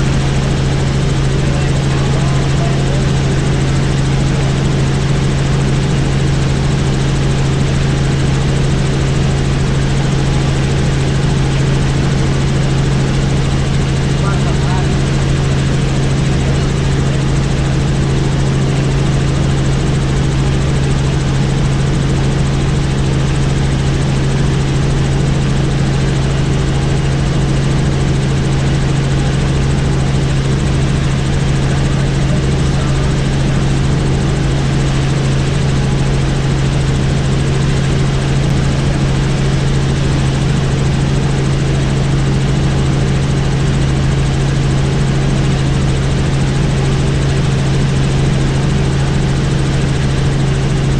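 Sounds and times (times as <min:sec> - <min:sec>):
helicopter engine and rotor drone: 0:00.0 - 0:50.9.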